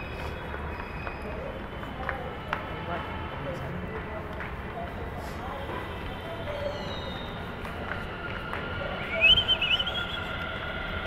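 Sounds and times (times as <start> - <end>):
station concourse rumble: 0.0 - 11.0.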